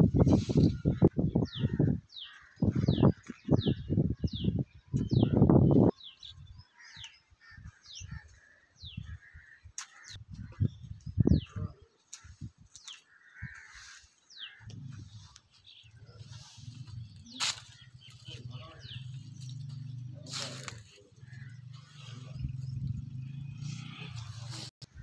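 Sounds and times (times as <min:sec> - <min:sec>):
birds chirping: 0:00.5 - 0:25.0.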